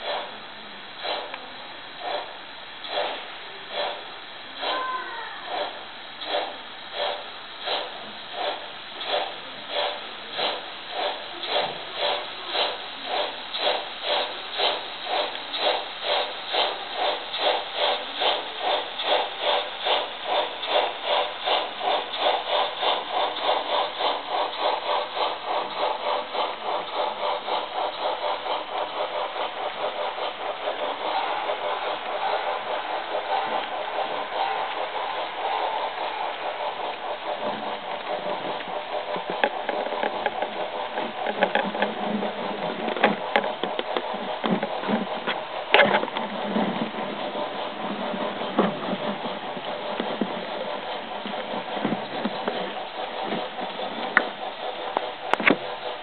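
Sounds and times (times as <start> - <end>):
model freight train rattling: 0.0 - 56.0.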